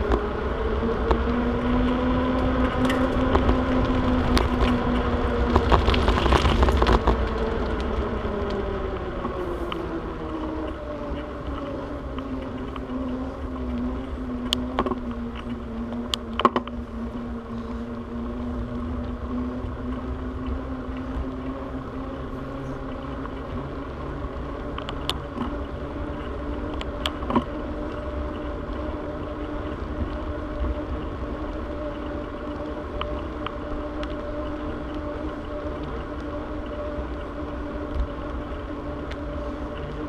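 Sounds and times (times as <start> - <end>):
bicycle road rumble: 0.0 - 40.0
bike clicks and rattles: 0.0 - 40.0
hum: 0.0 - 40.0
wind on camera: 0.0 - 40.0.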